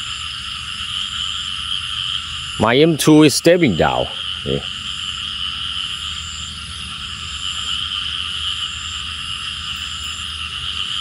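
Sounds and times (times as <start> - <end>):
frogs calling in chorus: 0.0 - 11.0.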